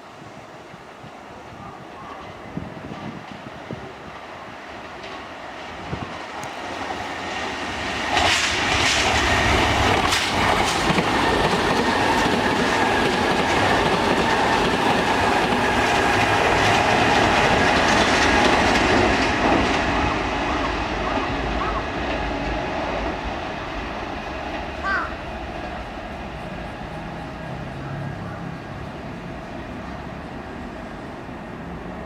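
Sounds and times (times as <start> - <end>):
train whine: 0.0 - 32.0
electric train passing: 2.2 - 32.0.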